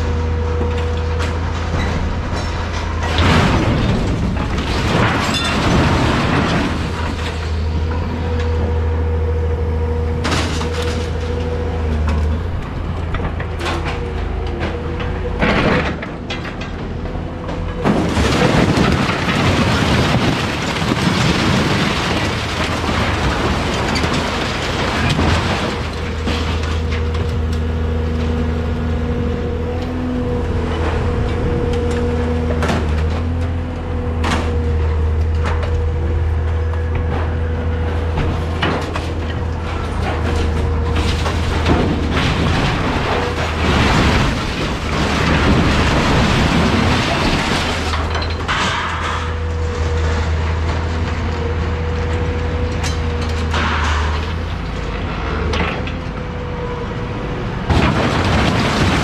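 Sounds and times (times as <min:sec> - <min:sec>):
loader engine running: 0:00.0 - 0:59.0
scrap metal crashing and clattering: 0:00.9 - 0:08.0, 0:10.2 - 0:28.7, 0:30.4 - 0:51.9, 0:52.6 - 0:56.0, 0:57.6 - 0:59.0.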